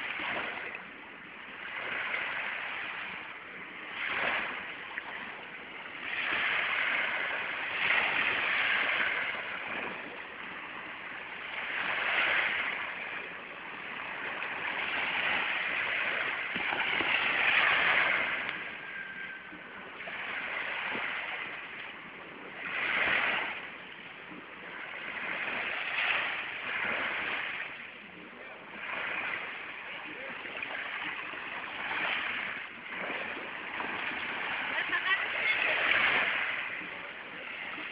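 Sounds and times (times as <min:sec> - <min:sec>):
sea waves washing in: 0:00.0 - 0:37.9.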